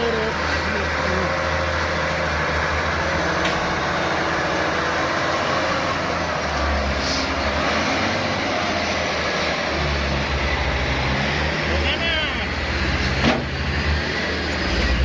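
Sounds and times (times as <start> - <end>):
heavy diesel truck engines straining: 0.0 - 15.0.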